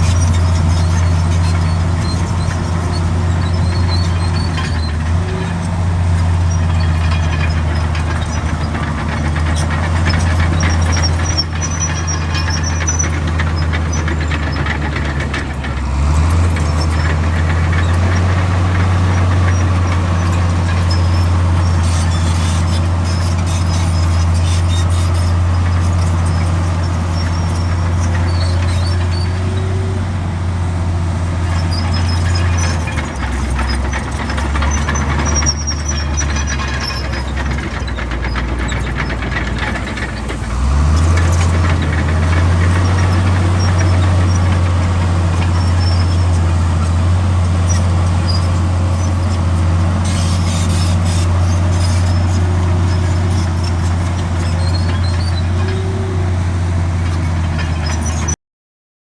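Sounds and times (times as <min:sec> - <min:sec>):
faint high squeaks: 0:00.0 - 0:15.3, 0:15.9 - 0:30.0, 0:31.4 - 0:56.4
bulldozer diesel engine running: 0:00.0 - 0:58.4.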